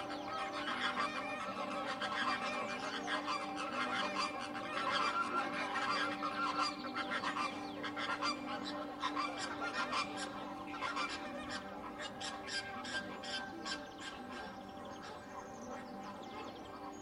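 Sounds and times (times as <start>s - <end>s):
flamingos honking: 0.0s - 17.0s.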